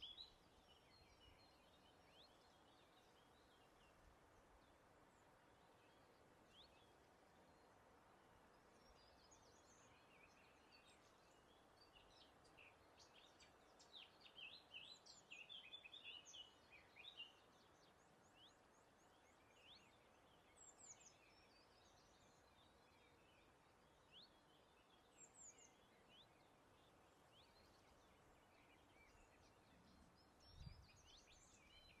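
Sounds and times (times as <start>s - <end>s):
faint birdsong: 0.0s - 32.0s
soft hiss: 0.0s - 32.0s.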